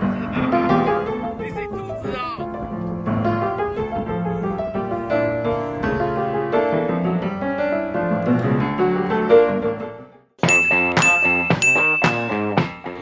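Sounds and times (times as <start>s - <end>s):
light piano music: 0.0s - 13.0s.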